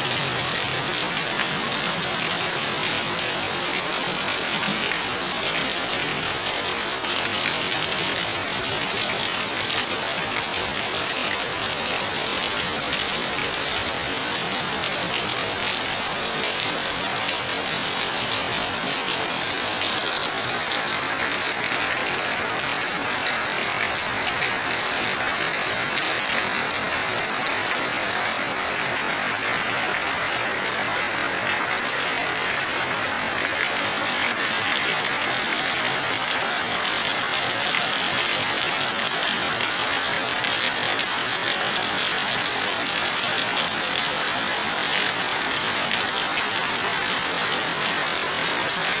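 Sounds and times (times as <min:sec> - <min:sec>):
heavy rain on concrete and foliage: 0:00.0 - 0:49.0.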